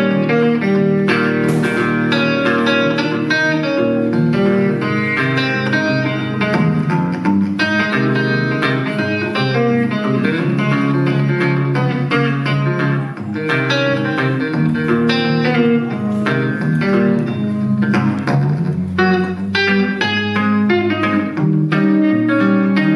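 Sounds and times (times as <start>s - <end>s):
amplified guitar picking: 0.0s - 22.9s.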